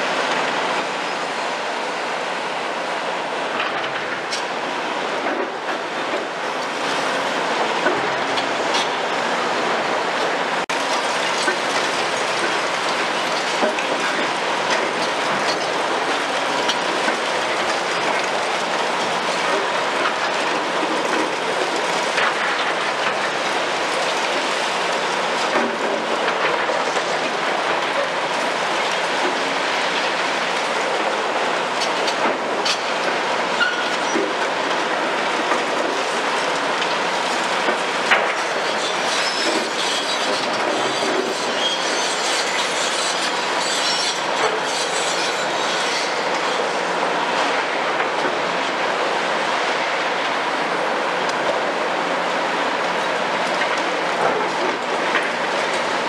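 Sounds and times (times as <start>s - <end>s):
excavator engines and hydraulics: 0.0s - 56.0s.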